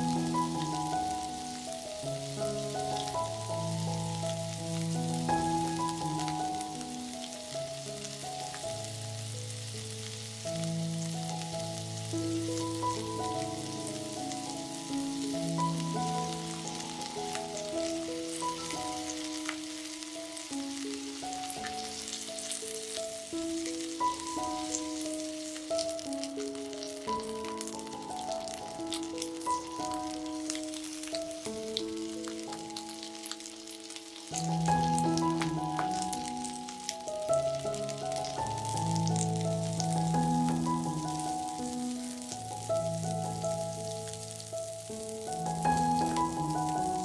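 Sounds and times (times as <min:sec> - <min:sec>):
kebabs sizzling on grill pan: 0:00.0 - 0:47.0
slow background music: 0:00.0 - 0:47.0.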